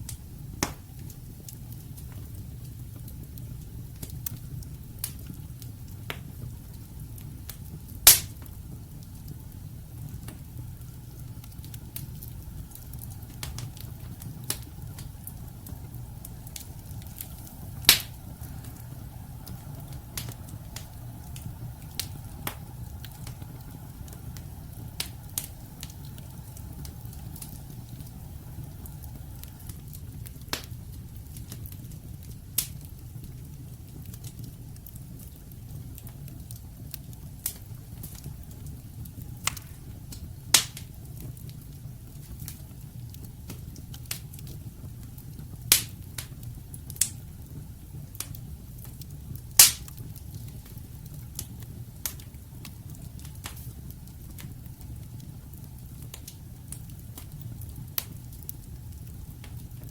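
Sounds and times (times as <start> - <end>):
fire crackling and snapping: 0.0 - 59.9
loud pops of burning wood: 0.0 - 59.9
low rumble of flames: 0.0 - 59.9.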